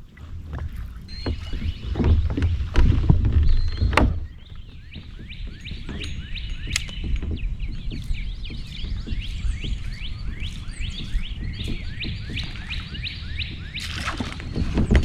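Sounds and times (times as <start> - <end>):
birds chirping: 0.0 - 15.0
low rumble of wind: 0.0 - 15.0
microphone handling rumble: 0.0 - 15.0.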